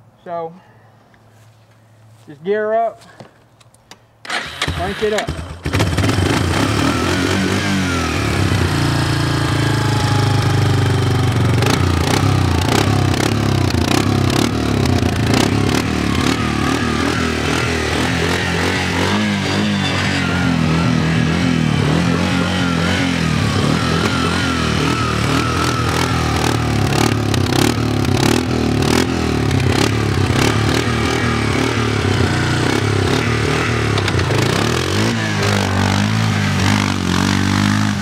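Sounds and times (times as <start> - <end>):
atv engine revving: 4.2 - 38.0.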